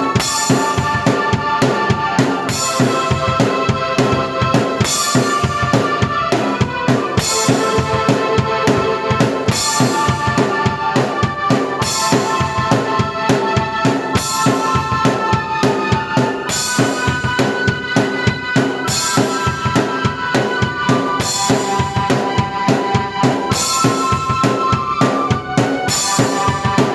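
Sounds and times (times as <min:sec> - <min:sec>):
sustained keyboard chords: 0:00.0 - 0:26.9.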